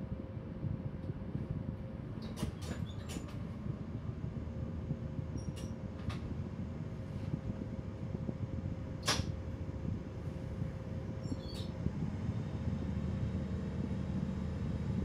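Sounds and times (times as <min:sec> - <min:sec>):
train equipment rumble and hum: 0:00.0 - 0:15.0.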